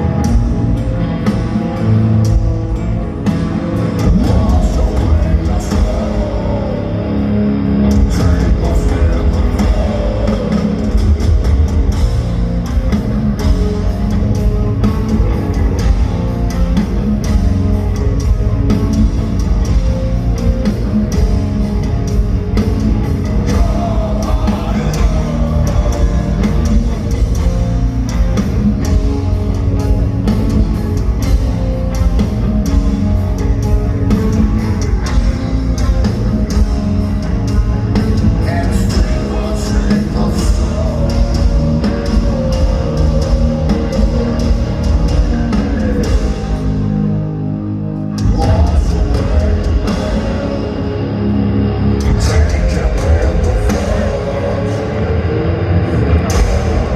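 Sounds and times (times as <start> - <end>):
drum kit: 0.0 - 7.2, 7.8 - 47.1, 48.1 - 56.9
bass guitar: 0.0 - 56.9
distorted electric guitar: 0.0 - 56.9.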